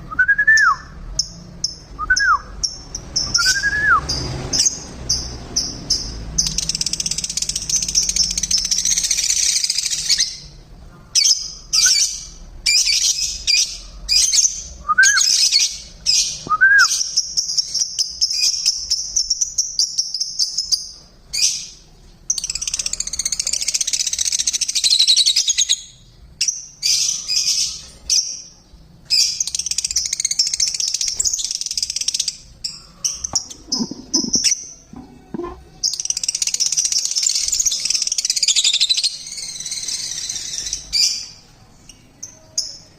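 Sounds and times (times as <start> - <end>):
lovebirds chattering and chirping: 1.1 - 42.9.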